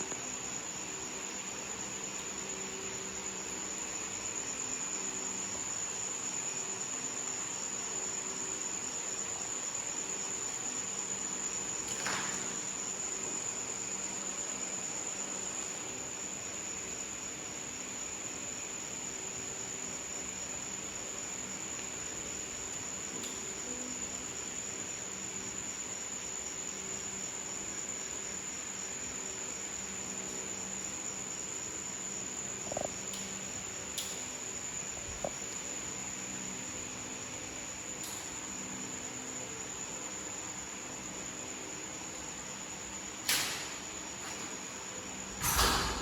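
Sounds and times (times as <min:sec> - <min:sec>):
high-pitched insect drone: 0:00.0 - 0:46.0.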